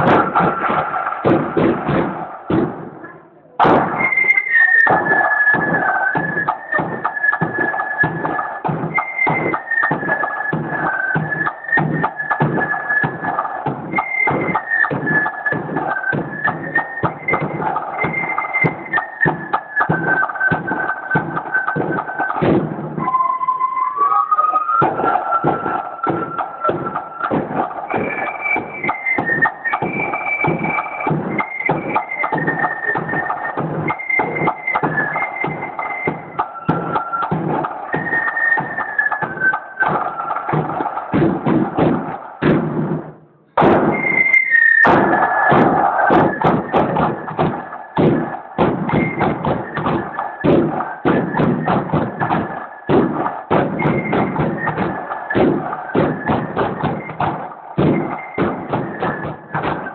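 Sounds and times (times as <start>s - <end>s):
bass drum: 0.0s - 3.0s, 3.6s - 4.2s, 4.9s - 23.1s, 24.8s - 44.2s, 44.8s - 59.9s
side drums playing march: 0.0s - 23.3s, 24.6s - 59.9s
high held melody: 0.0s - 59.9s.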